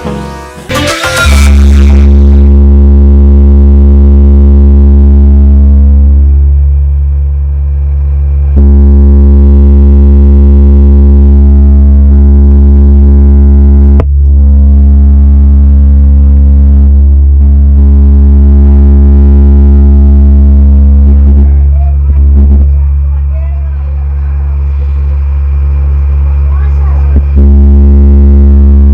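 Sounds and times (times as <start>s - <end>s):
loudspeaker low bass tone: 0.0s - 28.9s.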